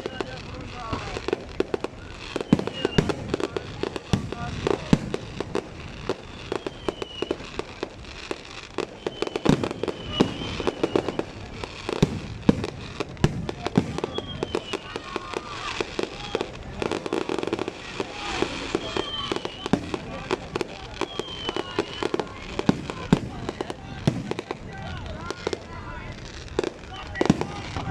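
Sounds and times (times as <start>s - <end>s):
fireworks bangs and pops: 0.0s - 27.9s
fireworks crackling: 0.0s - 27.9s.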